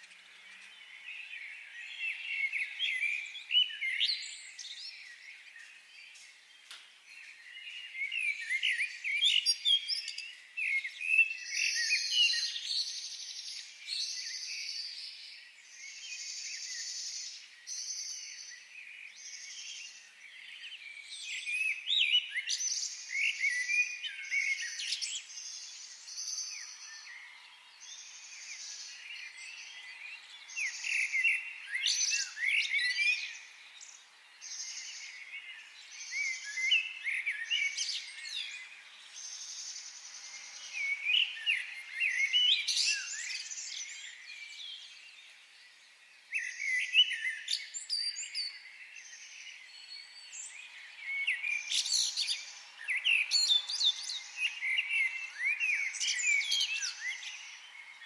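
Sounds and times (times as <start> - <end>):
forest birds singing and calling: 0.0 - 58.0.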